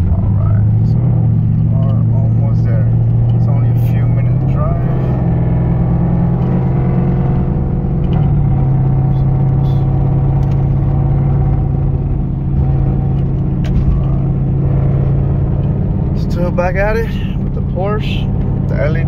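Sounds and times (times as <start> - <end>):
car engine droning: 0.0 - 19.0
road noise: 0.0 - 19.0.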